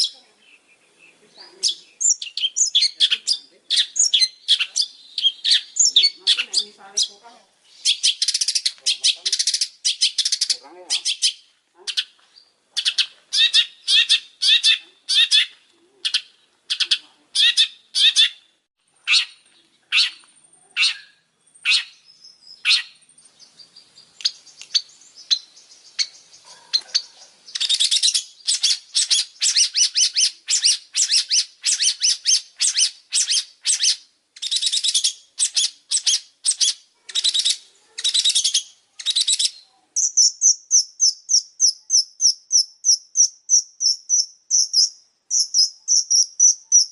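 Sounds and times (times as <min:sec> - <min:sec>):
bird chattering song: 0:00.0 - 0:46.9.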